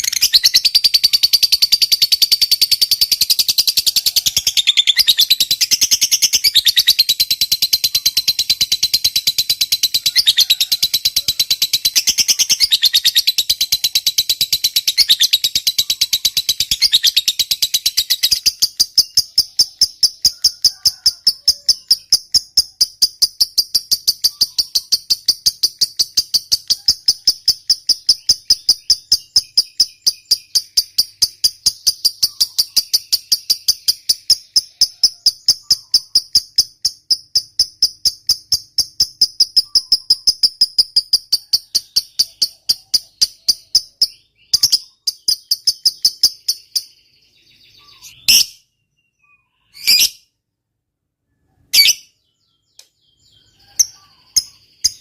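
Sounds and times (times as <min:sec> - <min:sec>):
lovebird shrill chatter: 0:00.0 - 0:46.8, 0:47.8 - 0:48.7, 0:49.6 - 0:50.2, 0:51.7 - 0:52.1.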